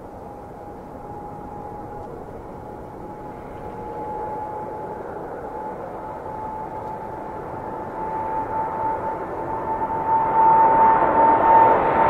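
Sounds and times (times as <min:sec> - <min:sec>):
jet engines roaring on takeoff: 0:00.0 - 0:12.0.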